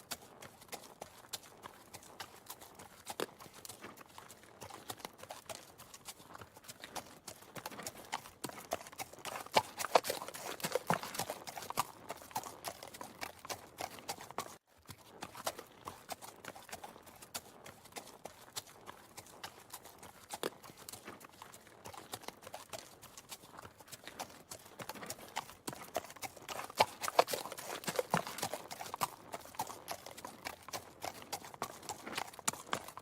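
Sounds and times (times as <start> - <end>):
horse hooves clip-clopping on hard ground: 0.0 - 33.0.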